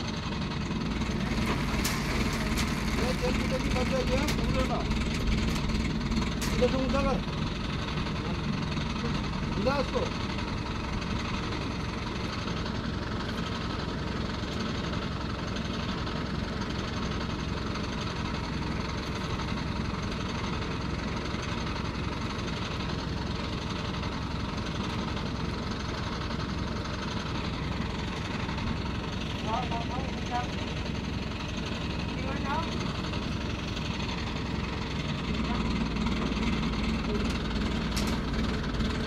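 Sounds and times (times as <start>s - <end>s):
crane engine idling: 0.0s - 39.0s.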